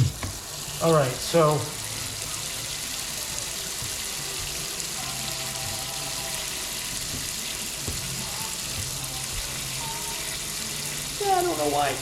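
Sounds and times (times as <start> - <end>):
water running from faucet: 0.0 - 12.0.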